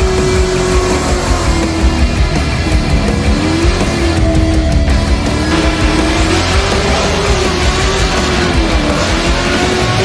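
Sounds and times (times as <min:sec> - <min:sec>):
car engine: 0:00.0 - 0:10.0
rock music with electric guitar: 0:00.0 - 0:10.0.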